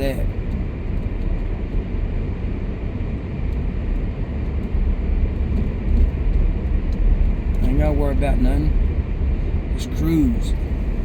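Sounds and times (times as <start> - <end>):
car driving on snowy road: 0.0 - 11.0.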